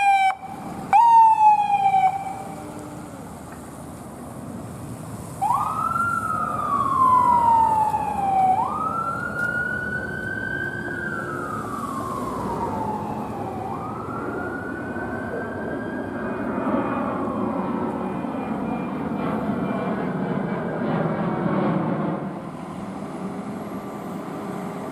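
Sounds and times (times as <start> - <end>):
emergency siren wailing: 0.0 - 4.2, 5.2 - 24.9
low rumble of traffic: 0.0 - 24.9.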